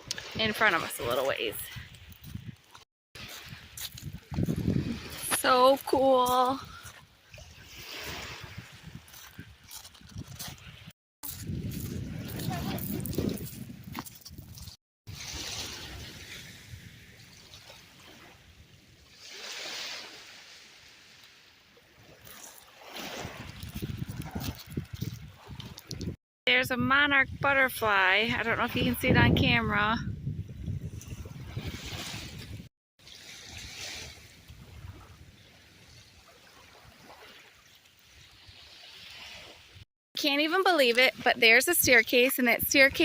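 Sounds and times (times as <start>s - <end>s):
wind rumbling on microphone: 0.0s - 19.1s, 22.0s - 32.7s, 33.4s - 37.4s, 41.1s - 43.0s
lake waves washing onto beach: 0.0s - 26.2s, 31.2s - 43.0s.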